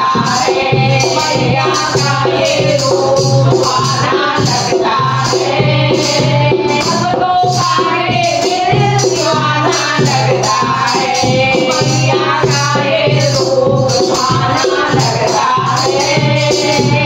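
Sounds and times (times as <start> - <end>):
hand drum: 0.0 - 17.0
women singing devotional song: 0.0 - 17.0.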